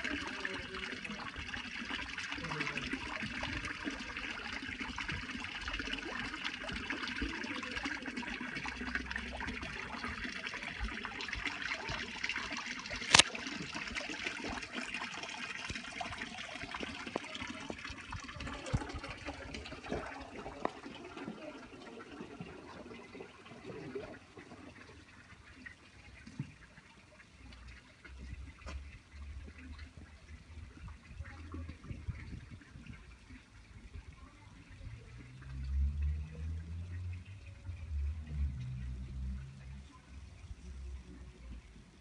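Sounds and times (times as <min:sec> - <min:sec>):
running water rushing: 0:00.0 - 0:42.0.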